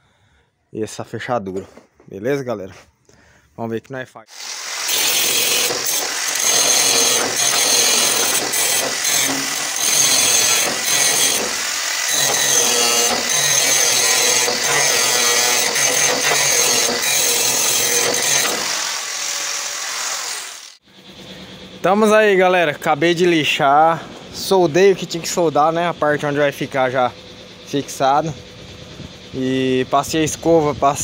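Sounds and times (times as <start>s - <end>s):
angle grinder grinding steel: 4.3s - 30.6s.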